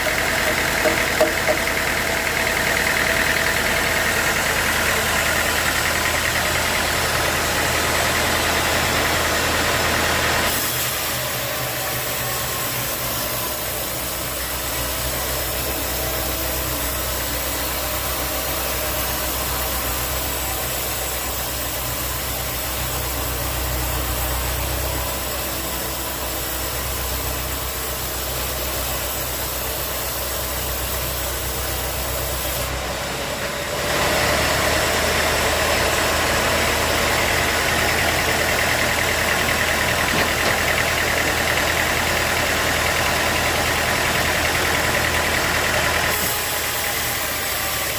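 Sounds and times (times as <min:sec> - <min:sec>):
sawmill machinery engine hum: 0:00.0 - 0:47.9.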